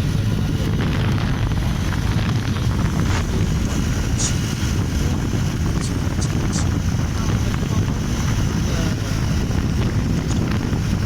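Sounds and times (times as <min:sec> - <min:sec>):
motorcycle road noise: 0:00.0 - 0:11.0
wind rumble on microphone: 0:00.0 - 0:11.0.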